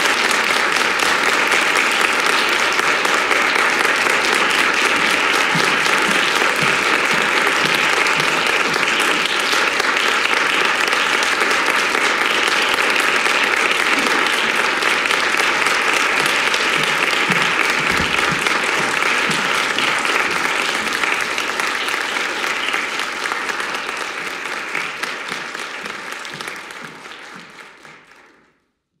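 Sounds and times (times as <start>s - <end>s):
audience applauding: 0.0s - 28.6s.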